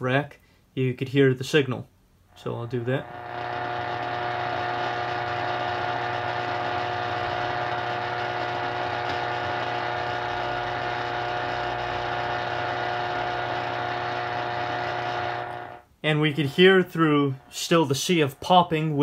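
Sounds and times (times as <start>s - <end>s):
steady hum tones: 2.2s - 19.0s
steady radio hiss with popping: 2.3s - 19.0s.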